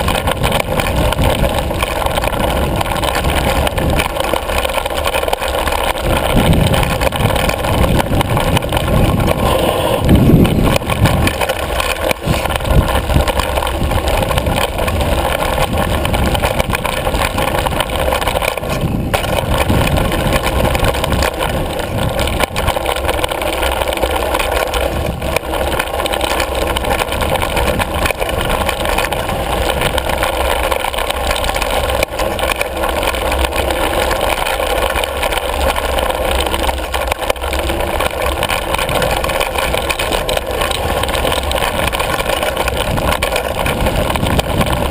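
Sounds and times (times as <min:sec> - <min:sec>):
mountain bike rattling: 0:00.0 - 0:44.9
wind rumbling over camera: 0:00.0 - 0:44.9.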